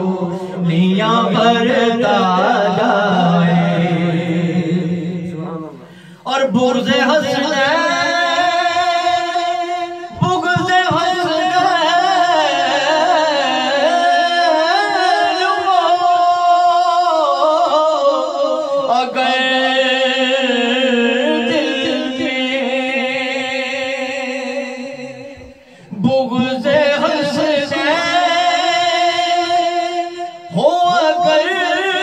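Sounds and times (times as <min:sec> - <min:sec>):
man singing devotional song: 0:00.0 - 0:32.0.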